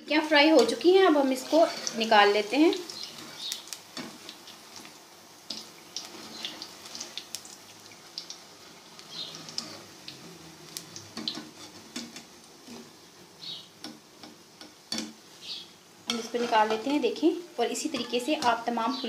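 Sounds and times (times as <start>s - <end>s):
fritters sizzling in hot fat: 0.0s - 19.0s.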